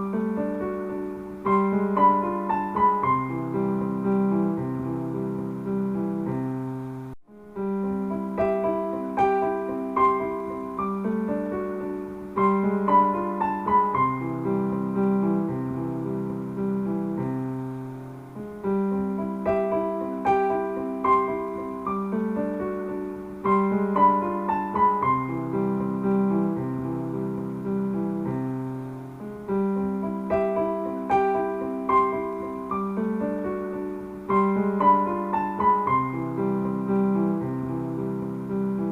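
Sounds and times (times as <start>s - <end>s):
gentle piano music: 0.0s - 38.9s.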